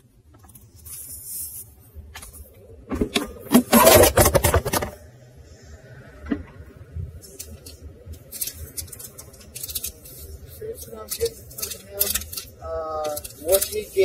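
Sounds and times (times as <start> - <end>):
handling noise rustling and clicking: 0.2 - 5.0, 7.2 - 14.0.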